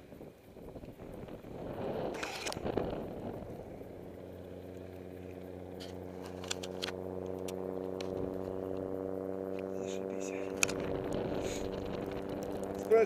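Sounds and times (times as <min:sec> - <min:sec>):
steady engine drone: 0:00.0 - 0:13.0.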